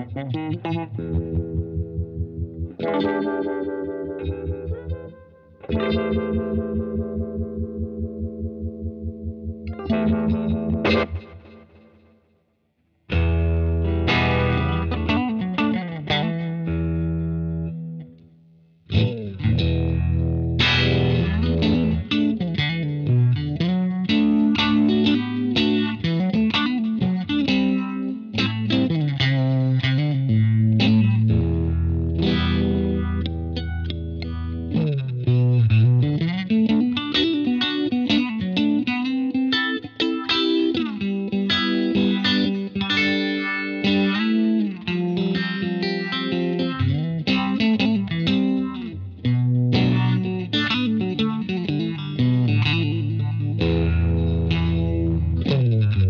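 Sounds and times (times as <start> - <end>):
electric guitar with vibe effect: 0.0 - 56.0.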